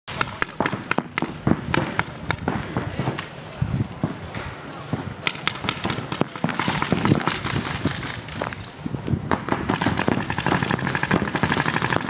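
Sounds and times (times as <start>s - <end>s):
airsoft guns firing: 0.1s - 3.4s, 4.9s - 8.6s, 9.3s - 12.0s.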